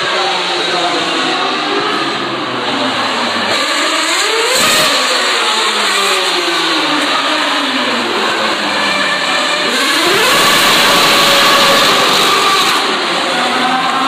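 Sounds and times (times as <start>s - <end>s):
racing cars passing: 0.0s - 14.0s.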